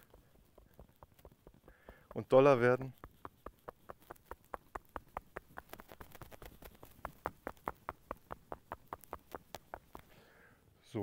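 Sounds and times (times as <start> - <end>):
fingertips tapping on head: 0.0 - 10.2.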